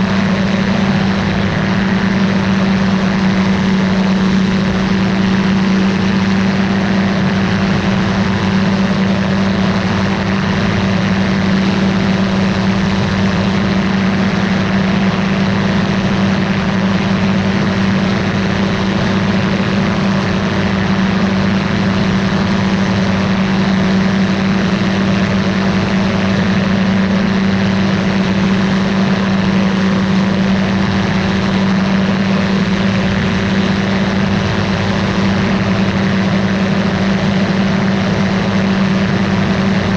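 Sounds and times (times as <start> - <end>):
ultralight aircraft engine droning: 0.0 - 39.9.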